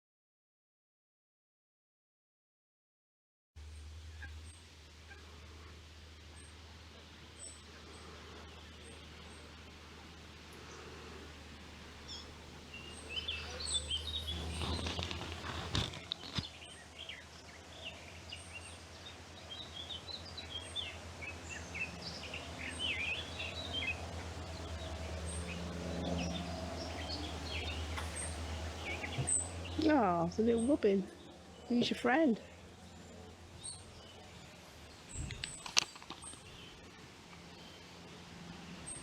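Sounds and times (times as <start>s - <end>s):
steady low rumble: 3.6s - 35.6s
songbirds chirping and singing: 6.3s - 39.0s.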